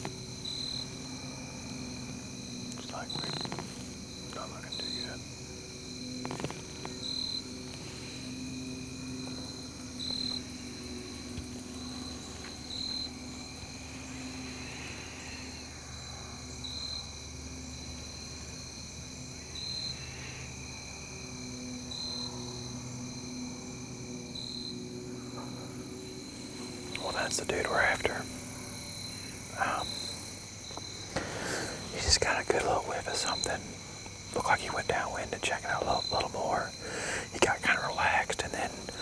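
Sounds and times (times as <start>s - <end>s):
cricket chirp: 0.0s - 39.0s
crickets trilling: 0.0s - 39.0s.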